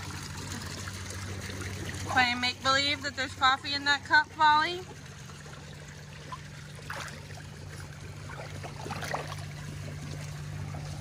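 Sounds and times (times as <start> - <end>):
pool water trickling and lapping: 0.0 - 11.0
small water splashes: 0.0 - 11.0
steady low hum: 0.0 - 11.0.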